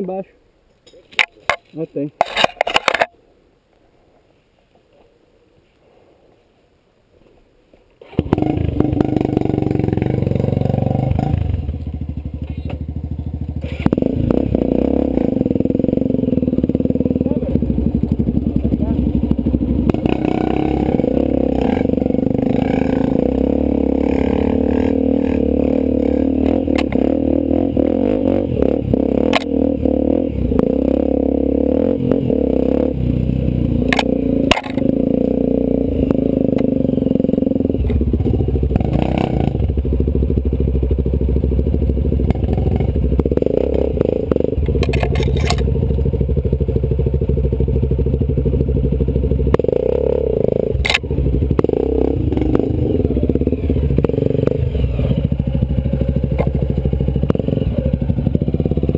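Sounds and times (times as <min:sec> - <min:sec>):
motorcycle engine revving: 0:08.0 - 0:58.9.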